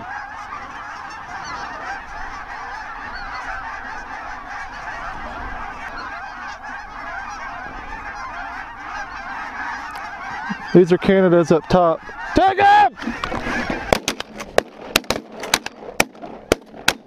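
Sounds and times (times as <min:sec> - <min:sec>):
flock of geese calling: 0:00.0 - 0:17.0.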